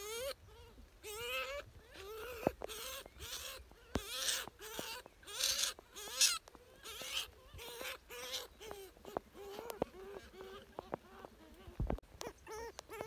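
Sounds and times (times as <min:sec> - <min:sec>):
polecat kits squeaky cries: 0:00.0 - 0:13.0.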